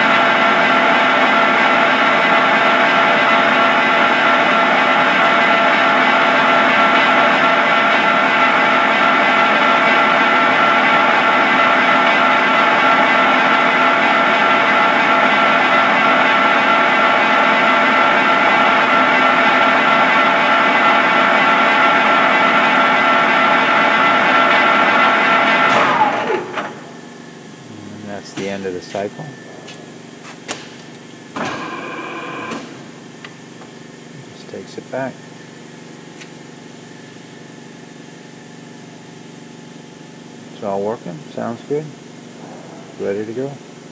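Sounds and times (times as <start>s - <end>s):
gear machine droning and whining: 0.0s - 36.0s.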